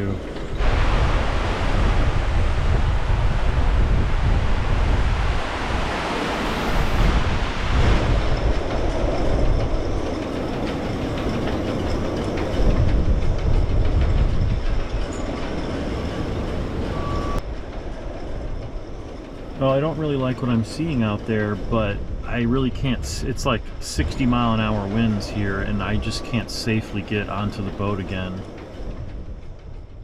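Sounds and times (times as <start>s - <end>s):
strong wind buffeting microphone: 0.0s - 30.0s.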